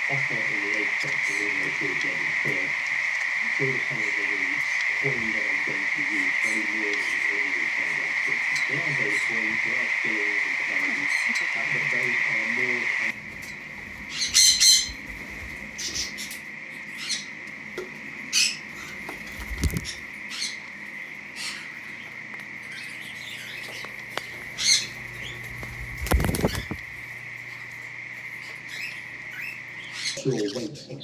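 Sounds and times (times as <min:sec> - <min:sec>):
faint high whine: 0:00.0 - 0:31.0
parrots chirping: 0:00.0 - 0:31.0.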